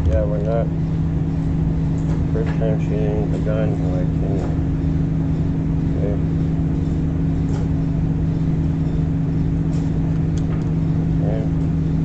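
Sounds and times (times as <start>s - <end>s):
ventilation system hum: 0.0s - 12.0s.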